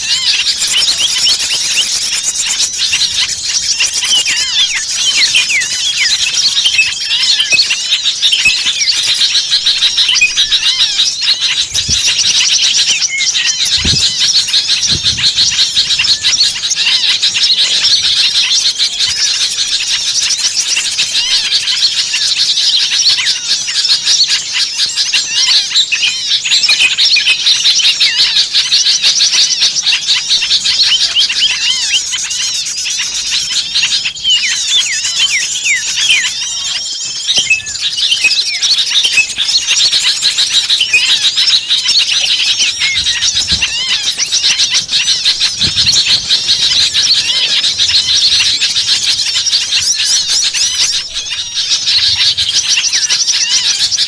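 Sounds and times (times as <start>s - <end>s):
songbirds chirping in chorus: 0.0s - 54.0s.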